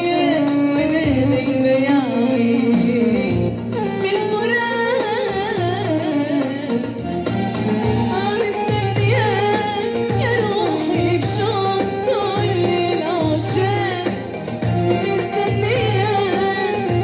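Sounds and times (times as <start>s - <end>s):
instrumental accompaniment: 0.0s - 17.0s
woman singing into a microphone: 0.0s - 17.0s.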